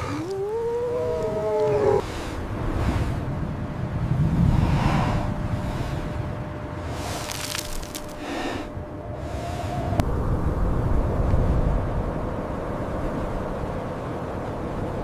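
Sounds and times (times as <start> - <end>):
hissing wind gusts: 0.0 - 15.0
strong wind rumbling: 0.0 - 15.0.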